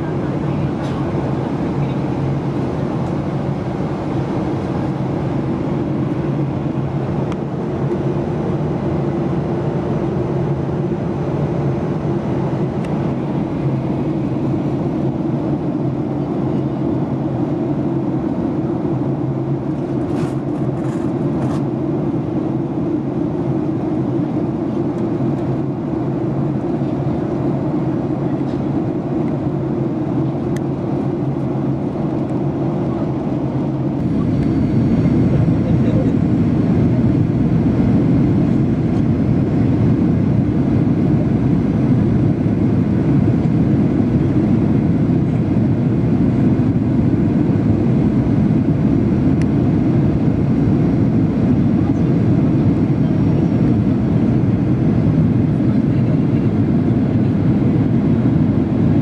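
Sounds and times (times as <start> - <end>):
jet engine cabin hum: 0.0 - 59.0.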